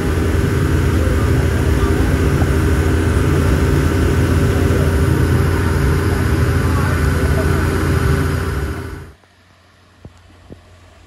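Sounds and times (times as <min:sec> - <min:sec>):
water rushing in boat wake: 0:00.0 - 0:09.3
motor boat engine droning: 0:00.0 - 0:11.0.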